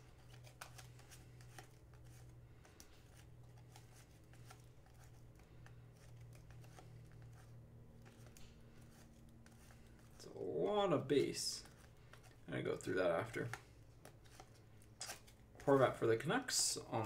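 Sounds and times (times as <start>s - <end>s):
low steady hum: 0.0s - 17.0s
trading cards flipping: 0.0s - 17.0s.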